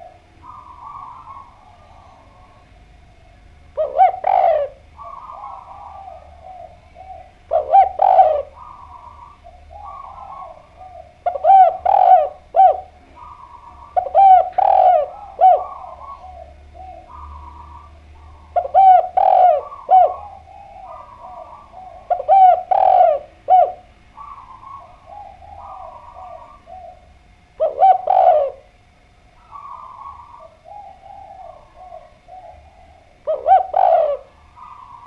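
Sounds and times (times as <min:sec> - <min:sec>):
dove cooing: 0:00.0 - 0:35.0.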